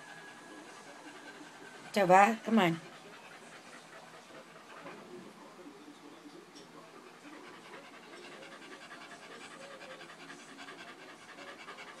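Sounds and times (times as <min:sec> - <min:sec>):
small dog panting: 0:00.0 - 0:12.0.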